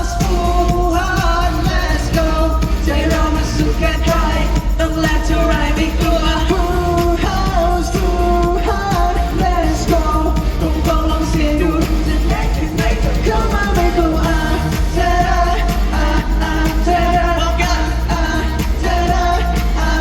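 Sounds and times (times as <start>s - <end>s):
bass-heavy backing: 0.0s - 20.0s
pop song singing: 0.0s - 20.0s.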